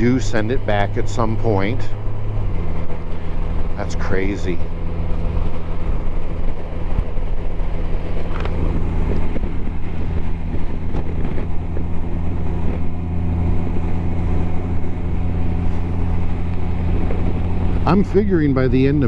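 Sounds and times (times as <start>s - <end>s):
motorcycle engine cruising: 0.0s - 19.0s
wind noise on microphone: 0.0s - 19.0s.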